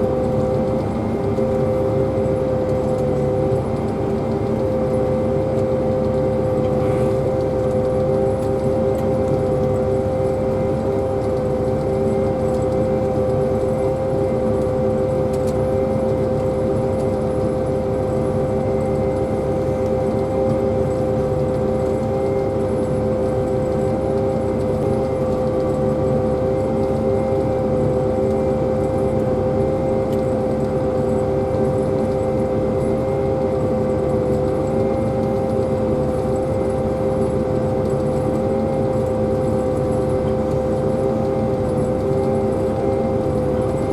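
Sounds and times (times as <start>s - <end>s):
pea viner machine drone: 0.0s - 43.9s.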